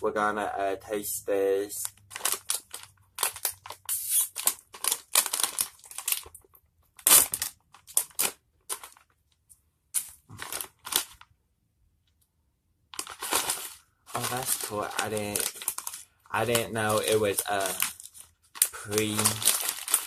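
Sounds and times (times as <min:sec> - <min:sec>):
plastic snack bag crinkling: 0:01.6 - 0:09.3, 0:10.0 - 0:11.3, 0:12.9 - 0:20.0.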